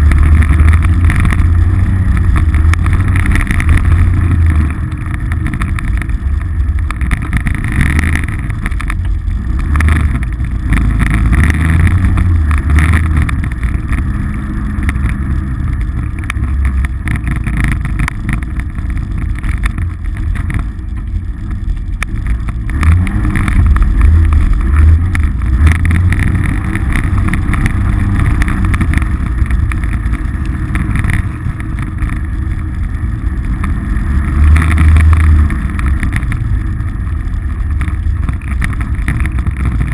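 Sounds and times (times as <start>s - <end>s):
off-road vehicle engine drone: 0.0s - 39.9s.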